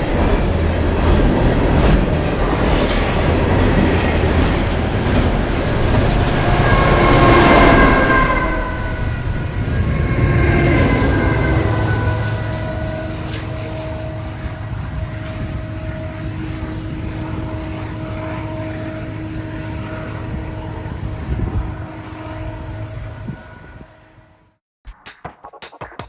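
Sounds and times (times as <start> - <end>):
train rumbling: 0.0 - 24.3.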